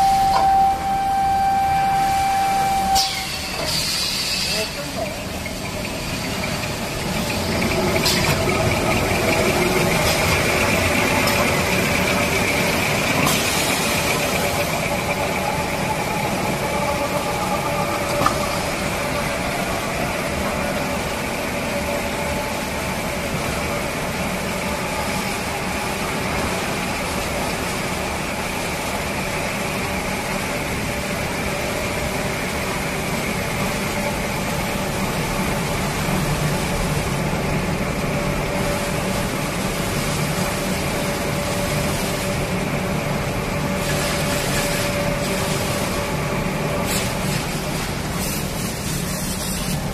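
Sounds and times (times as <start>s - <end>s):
machinery drone with high whine: 0.0s - 49.9s.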